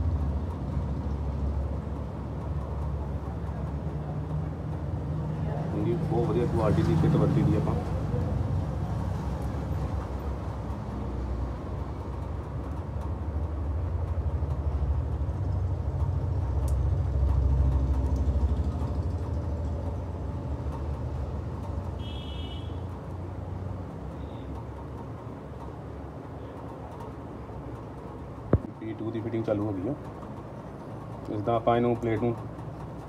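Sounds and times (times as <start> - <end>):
motor vehicle rumble: 0.0 - 33.0.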